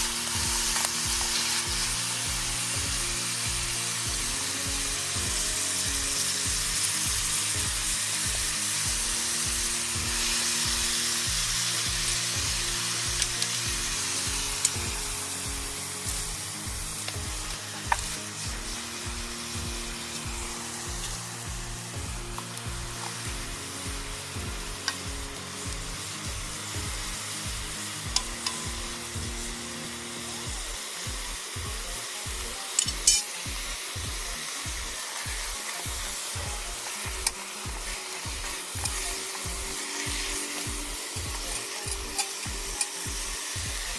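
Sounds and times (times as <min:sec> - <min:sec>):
background music with slow beat: 0:00.0 - 0:43.9
onions sizzling in a pan: 0:00.0 - 0:43.9
stirring ticks: 0:00.0 - 0:43.9.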